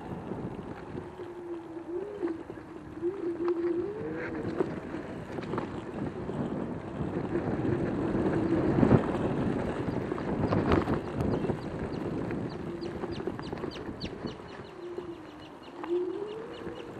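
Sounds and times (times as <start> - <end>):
electric scooter motor whine: 0.0 - 16.9
wind on microphone: 0.0 - 16.9.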